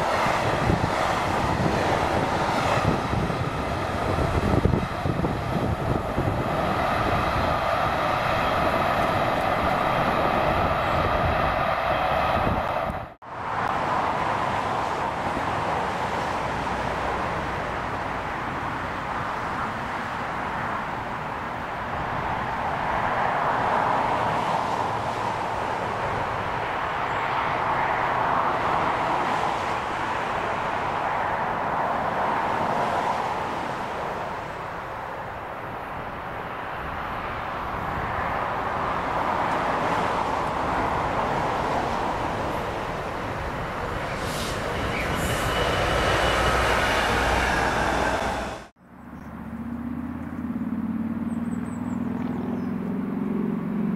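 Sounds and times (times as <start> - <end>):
diesel locomotive engine: 0.0 - 49.4.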